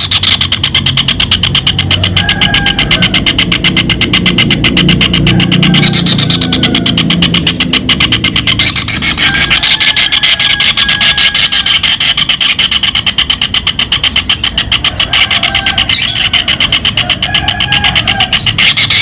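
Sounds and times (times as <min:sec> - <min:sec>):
kingfisher rattling call: 0:00.0 - 0:19.0.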